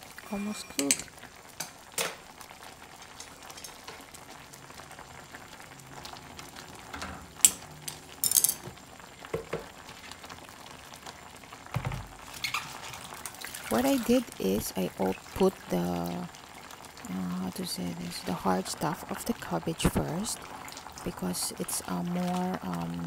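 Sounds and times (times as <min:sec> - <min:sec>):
soup bubbling in a pot: 0:00.0 - 0:23.0.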